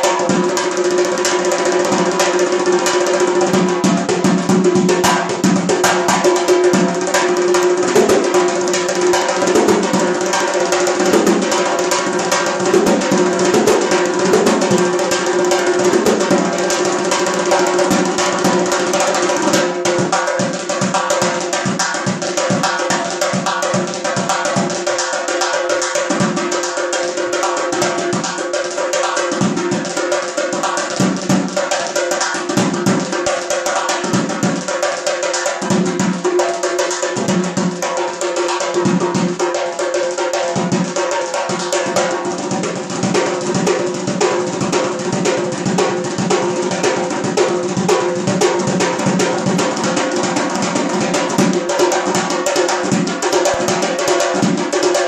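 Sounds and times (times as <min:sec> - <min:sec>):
hand drum fast rhythm: 0:00.0 - 0:55.0.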